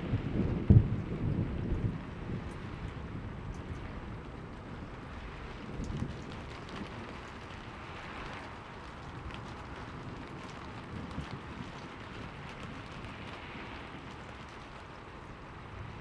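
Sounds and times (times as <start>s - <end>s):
steady rain: 0.0s - 16.0s
thunder rumble: 0.0s - 16.0s
rain drop ticks: 0.1s - 16.0s.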